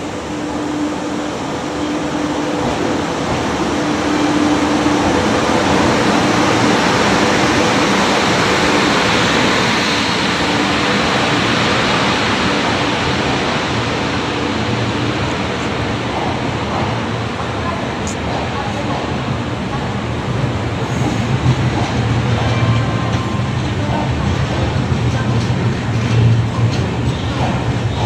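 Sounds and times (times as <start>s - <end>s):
passenger train rushing past: 0.0s - 28.0s.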